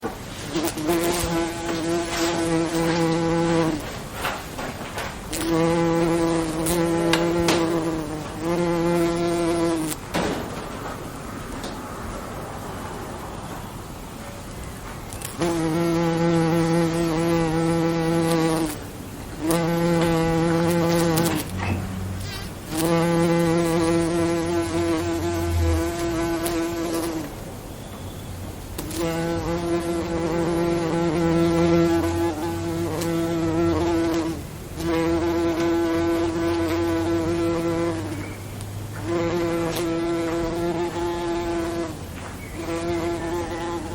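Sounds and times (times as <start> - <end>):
bee buzzing: 0.0 - 12.6, 15.1 - 43.9
low background hiss: 0.0 - 43.9.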